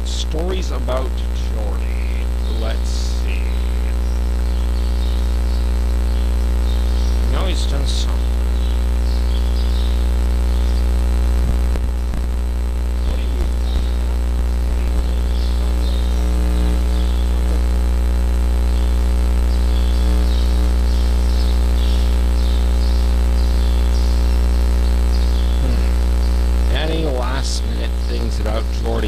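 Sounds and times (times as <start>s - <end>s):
birds chirping: 0.0s - 29.0s
electrical hum and buzz: 0.0s - 29.0s.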